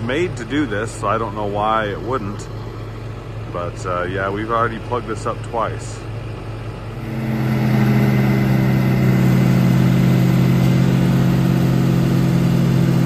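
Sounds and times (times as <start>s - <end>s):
tractor and forage chopper running: 0.0s - 13.0s.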